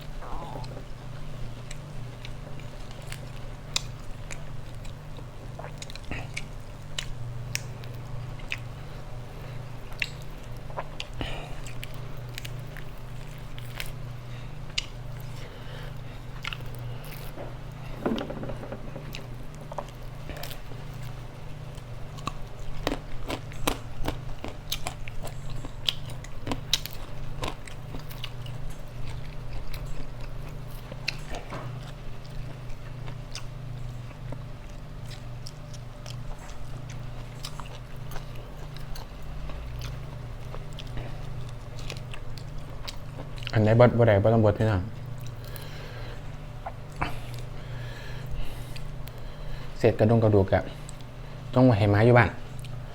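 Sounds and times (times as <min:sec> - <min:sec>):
steady low hum: 0:00.0 - 0:52.9
person chewing and biting: 0:01.6 - 0:09.1, 0:09.7 - 0:17.9, 0:18.9 - 0:43.6, 0:46.6 - 0:49.3.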